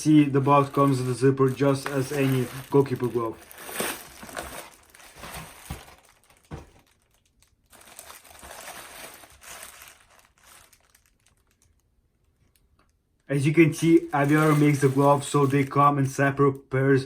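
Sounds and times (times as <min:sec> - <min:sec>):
packaging crinkling and rustling: 0:00.2 - 0:12.6, 0:13.8 - 0:16.4.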